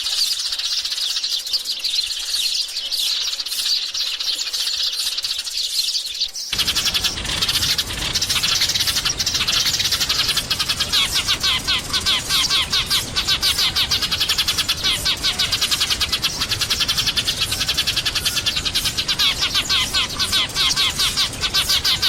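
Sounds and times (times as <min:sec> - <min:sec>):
sparrows chirping: 0:00.0 - 0:22.0.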